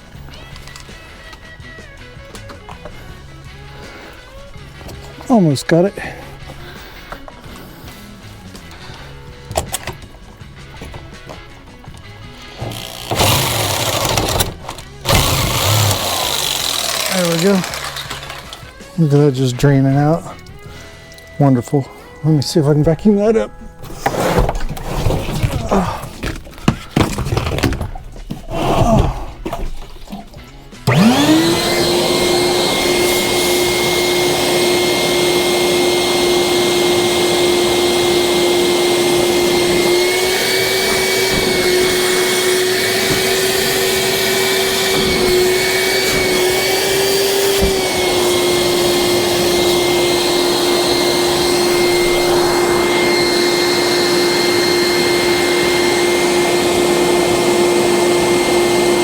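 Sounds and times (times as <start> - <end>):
shop vacuum motor whining: 0.0 - 23.2, 28.5 - 59.0.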